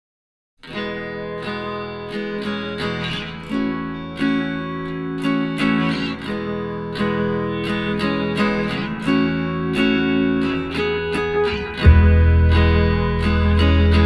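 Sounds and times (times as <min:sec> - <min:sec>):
acoustic guitar strumming chords: 0:00.7 - 0:14.0.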